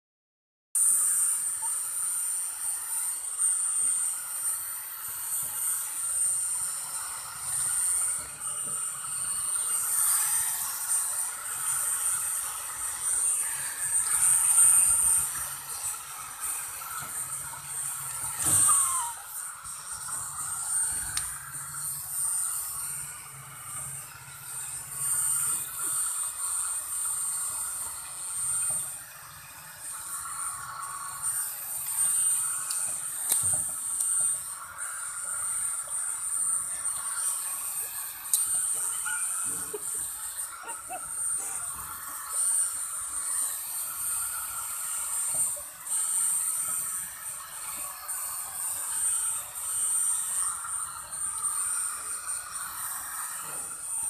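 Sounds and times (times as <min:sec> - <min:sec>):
hair dryer blowing: 0:00.8 - 0:54.0.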